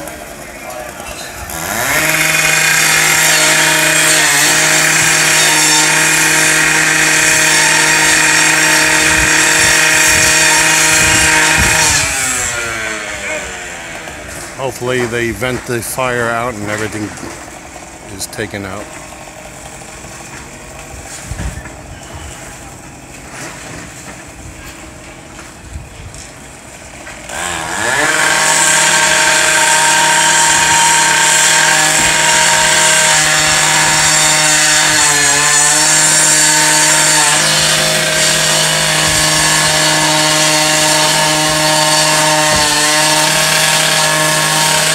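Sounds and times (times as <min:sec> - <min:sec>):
gas-powered saw running: 0:00.0 - 0:25.3, 0:25.9 - 0:44.9.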